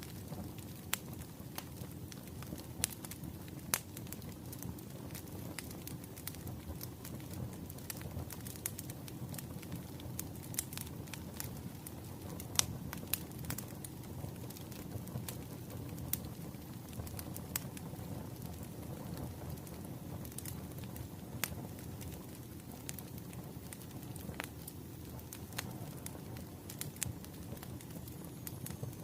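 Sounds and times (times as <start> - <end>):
low rumble of burning logs: 0.0 - 29.0
wood fire crackling and popping: 0.0 - 29.0.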